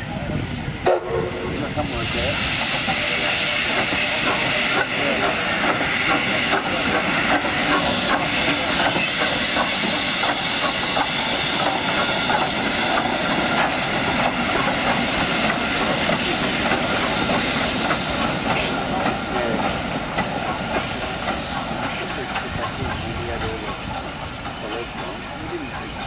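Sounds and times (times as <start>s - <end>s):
steam hiss: 0.0s - 26.0s.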